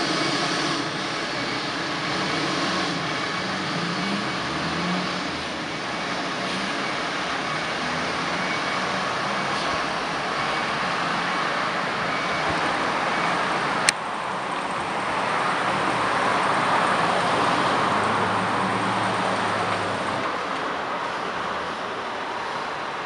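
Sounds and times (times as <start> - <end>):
fire engine diesel engine: 0.0 - 23.0
street traffic: 0.0 - 23.0
car passing: 2.1 - 22.6.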